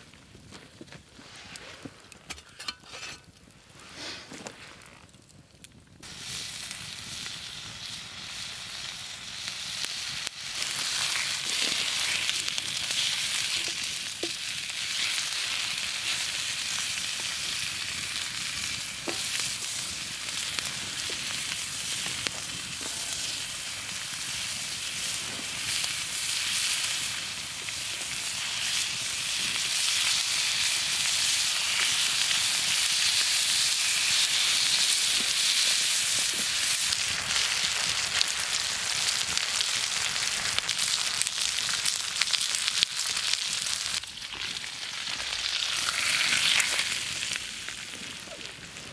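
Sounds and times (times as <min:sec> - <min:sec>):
bacon sizzling in a frying pan: 0:06.0 - 0:48.9.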